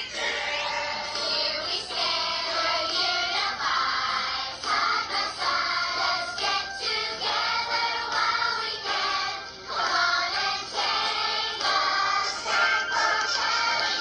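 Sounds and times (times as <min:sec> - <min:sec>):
group singing in chorus: 0:00.2 - 0:14.0.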